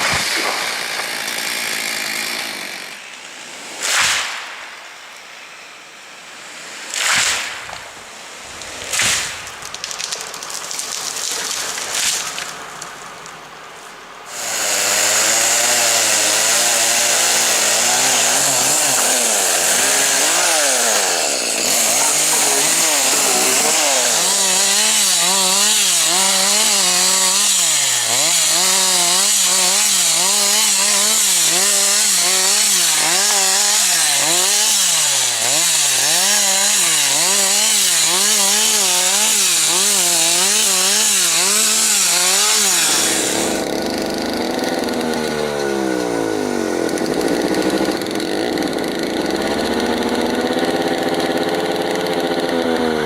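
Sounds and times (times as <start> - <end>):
chainsaw cutting wood: 0.0 - 4.8, 6.5 - 13.3, 14.3 - 53.0.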